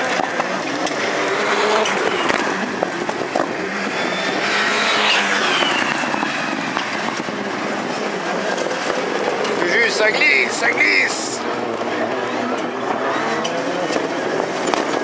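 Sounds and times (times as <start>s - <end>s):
race cars passing: 0.0s - 15.0s.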